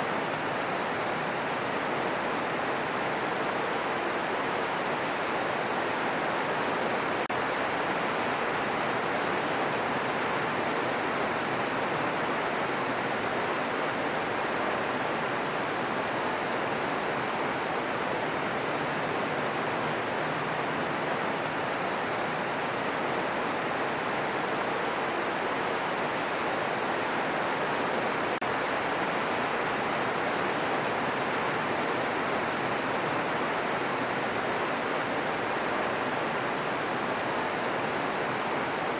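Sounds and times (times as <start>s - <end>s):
steady green noise hiss: 0.0s - 38.9s.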